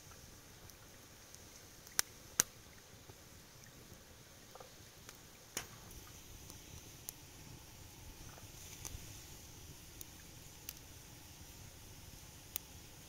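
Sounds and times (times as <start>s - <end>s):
fire snapping: 0.0s - 13.0s
wood fire hissing: 0.0s - 13.0s.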